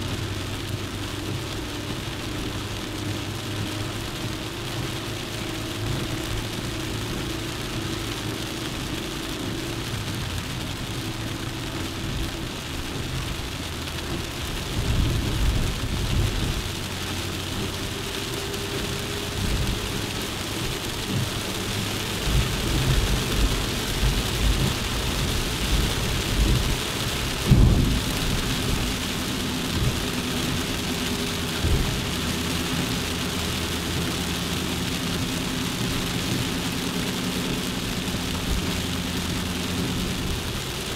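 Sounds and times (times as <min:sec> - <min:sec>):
car engine: 0:00.0 - 0:40.9
low rumbles and thumps: 0:00.0 - 0:40.9.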